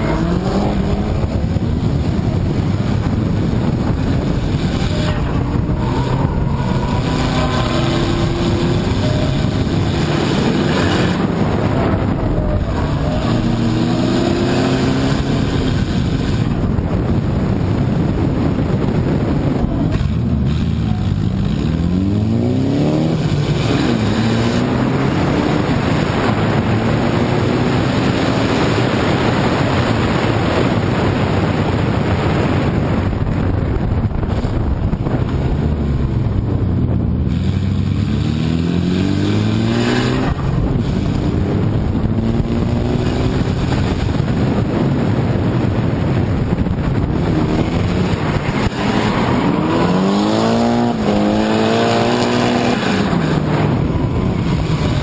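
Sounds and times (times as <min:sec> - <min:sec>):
car engine revving hard: 0:00.0 - 0:31.8, 0:37.2 - 0:55.0
tyre and wind noise: 0:00.0 - 0:55.0.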